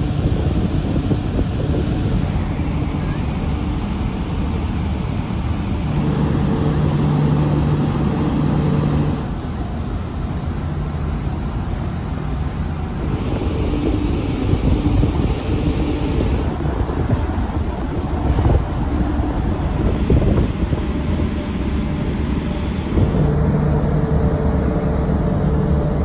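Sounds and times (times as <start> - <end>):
rushing hiss of ship's wake: 0.0 - 26.0
ship engines droning: 0.0 - 26.0
wind on microphone: 0.0 - 26.0.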